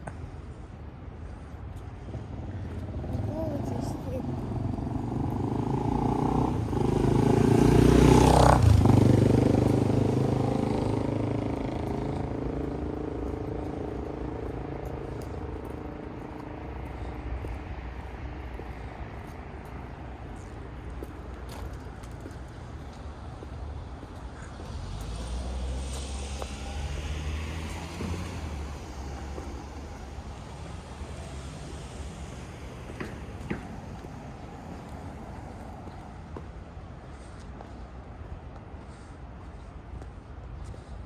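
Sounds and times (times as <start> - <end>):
vehicle driving past: 2.0 - 37.8.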